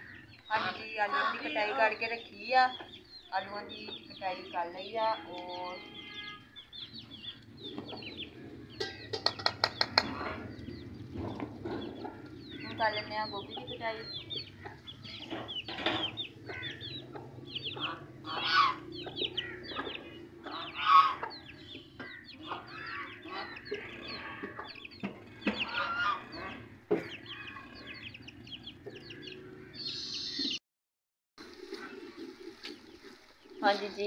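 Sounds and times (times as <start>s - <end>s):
chicks peeping: 0.0s - 30.6s
grown chickens calling: 0.0s - 30.6s, 31.5s - 34.0s.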